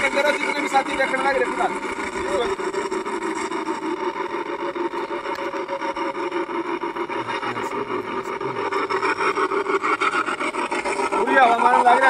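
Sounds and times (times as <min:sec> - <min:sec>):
model helicopter rotor whirring: 0:00.0 - 0:12.0.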